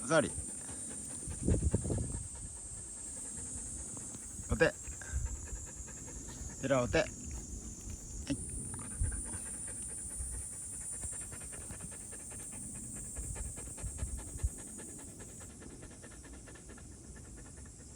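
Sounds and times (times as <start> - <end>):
dog panting: 0.0 - 17.9.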